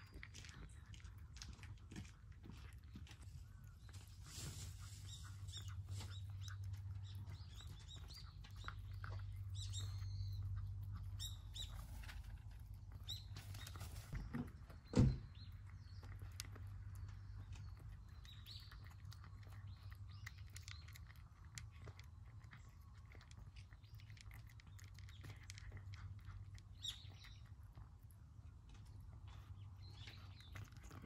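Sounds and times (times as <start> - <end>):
cat chewing and licking: 0.0 - 31.0
birds chirping: 2.6 - 31.0.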